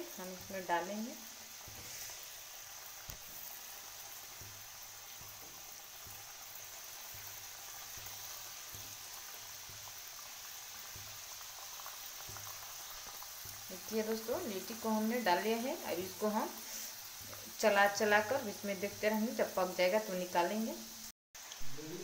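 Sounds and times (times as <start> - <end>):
oil sizzling and bubbling: 0.0 - 22.0.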